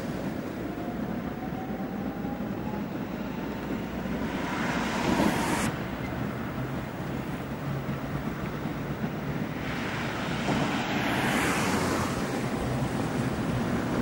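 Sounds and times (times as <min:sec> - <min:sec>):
tram rumbling: 0:00.0 - 0:14.0.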